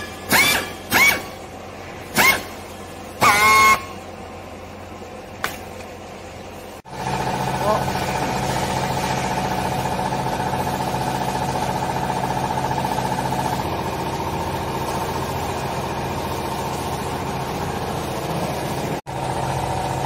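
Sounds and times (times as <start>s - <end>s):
hydraulic motor and pump hum: 0.0s - 20.0s.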